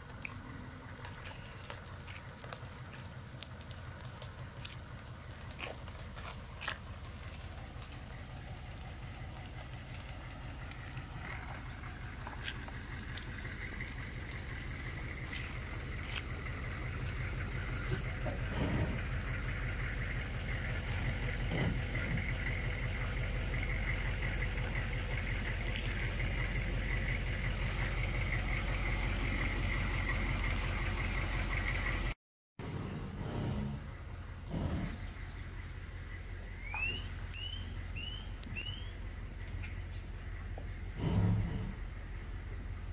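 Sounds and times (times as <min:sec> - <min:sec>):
truck engine running at low revs: 0:00.0 - 0:42.9.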